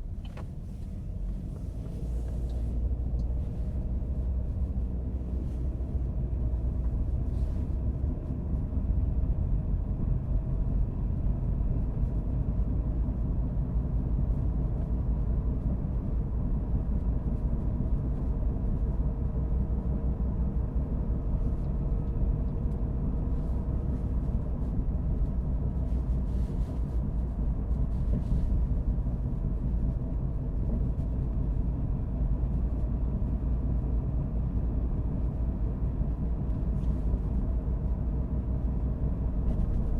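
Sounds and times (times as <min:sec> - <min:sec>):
low rumble of road and engine: 0:00.0 - 0:39.9.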